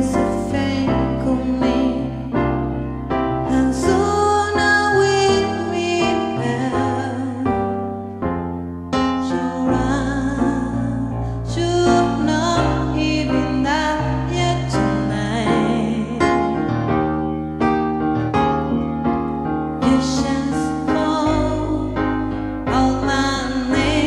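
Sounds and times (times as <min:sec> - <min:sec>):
piano accompaniment: 0:00.0 - 0:24.0
sustained bass: 0:00.0 - 0:24.0.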